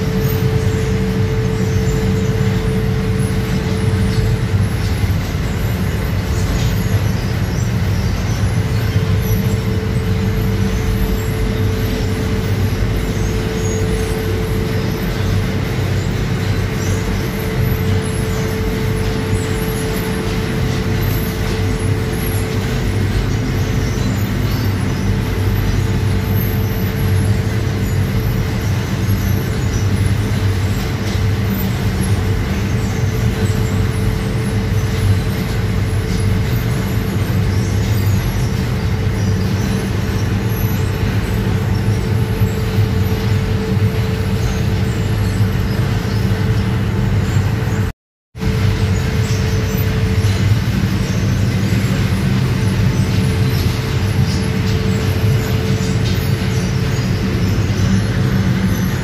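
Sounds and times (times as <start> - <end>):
machine drone with held tone: 0.0 - 59.0.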